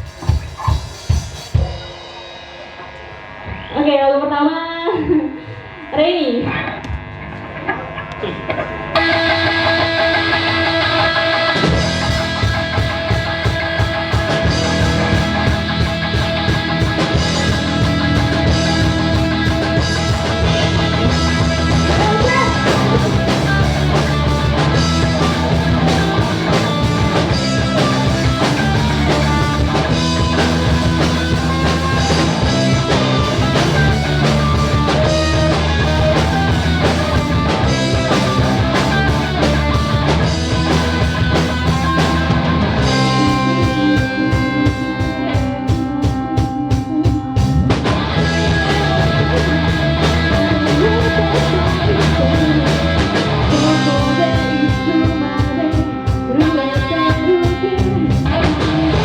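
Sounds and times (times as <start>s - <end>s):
rock band with electric guitar: 0.0s - 59.0s.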